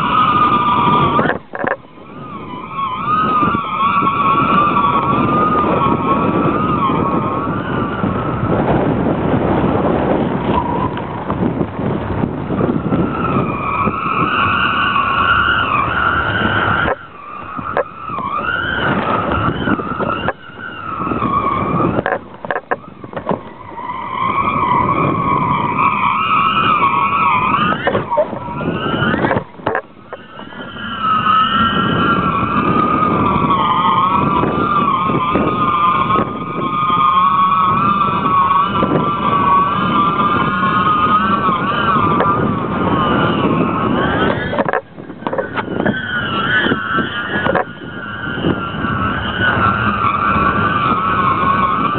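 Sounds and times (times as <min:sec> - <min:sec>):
kite rig whistling hum: 0:00.0 - 0:51.9
wind rushing over camera: 0:00.0 - 0:51.9.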